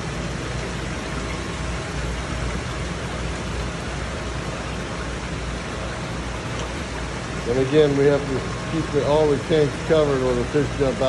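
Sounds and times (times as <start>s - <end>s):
low steady hum: 0.0s - 11.0s
water splashing and bubbling: 0.0s - 11.0s.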